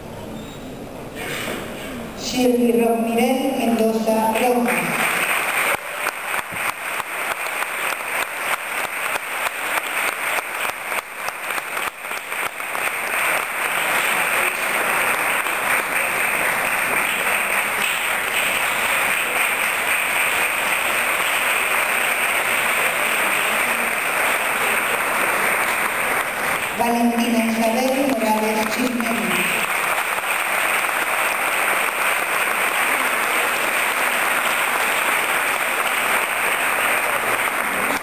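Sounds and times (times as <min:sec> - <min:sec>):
audience applauding: 0:04.3 - 0:38.0.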